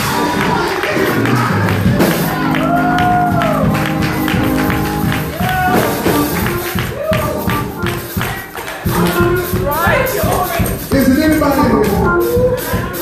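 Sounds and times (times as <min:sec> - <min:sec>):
held chords: 0:00.0 - 0:13.0
steady percussive beat: 0:00.0 - 0:13.0
voices singing and calling out: 0:00.0 - 0:13.0.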